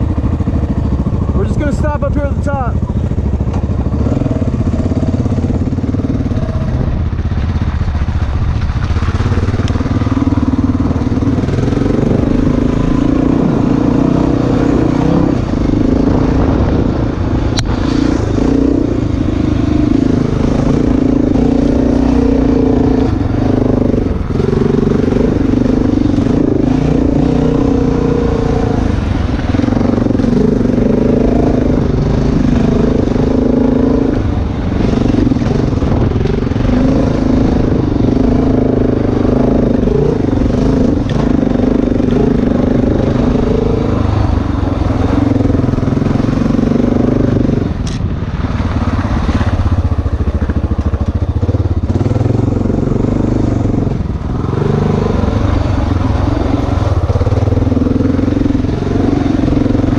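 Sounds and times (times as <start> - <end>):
dirt bike engine revving: 0.0 - 48.0, 48.6 - 59.9.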